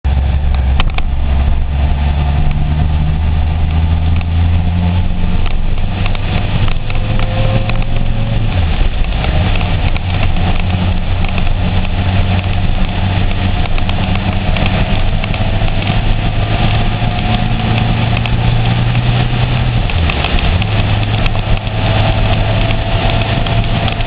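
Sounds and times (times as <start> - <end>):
motorcycle engine running: 0.0 - 24.0
road noise: 0.0 - 24.0
wind noise: 0.0 - 24.0.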